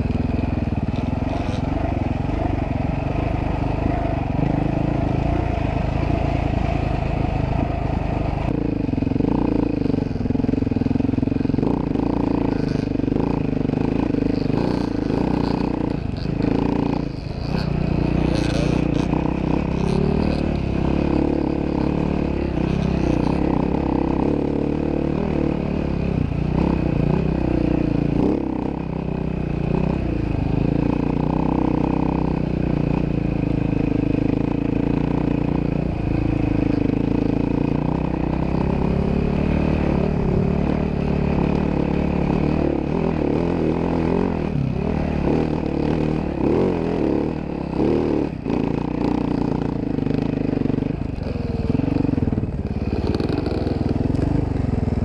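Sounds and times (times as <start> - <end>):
dirt bike engine under throttle: 0.0 - 55.0.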